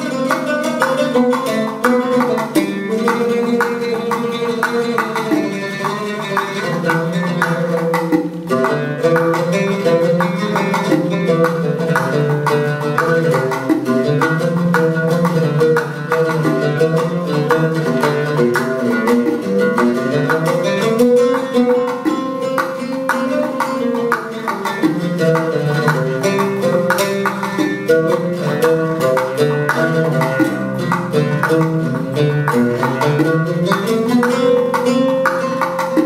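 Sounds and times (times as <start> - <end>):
oud playing: 0.0 - 36.0.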